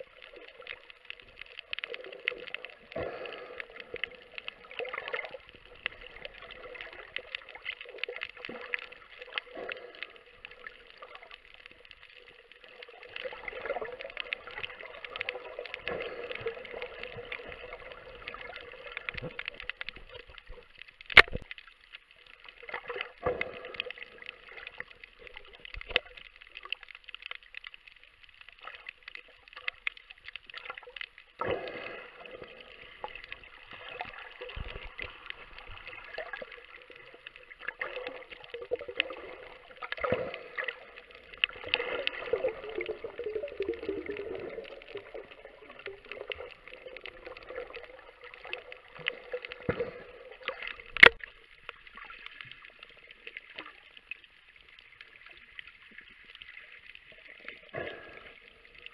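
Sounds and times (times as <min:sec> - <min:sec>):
underwater bubbling and gurgling: 0:00.0 - 0:58.9.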